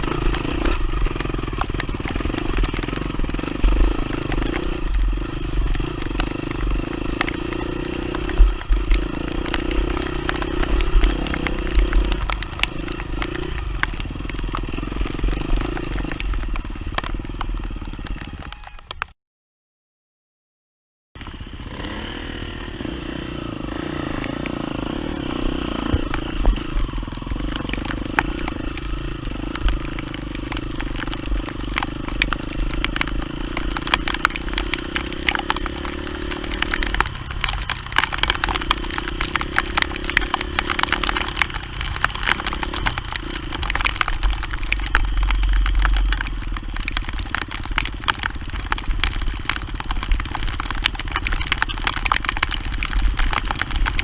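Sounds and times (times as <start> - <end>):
bike clicks and knocks: 0.0 - 19.1, 24.3 - 54.0
dirt bike engine running: 0.0 - 19.1, 21.2 - 54.0.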